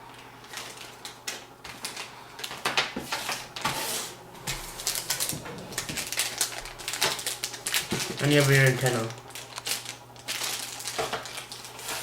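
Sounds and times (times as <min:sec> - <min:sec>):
packaging rustling: 0:00.4 - 0:03.7, 0:04.4 - 0:12.0.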